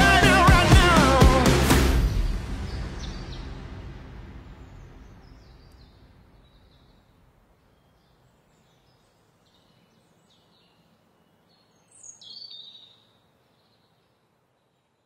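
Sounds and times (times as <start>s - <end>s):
low outdoor hiss: 1.9s - 15.0s
birds chirping: 2.1s - 15.0s.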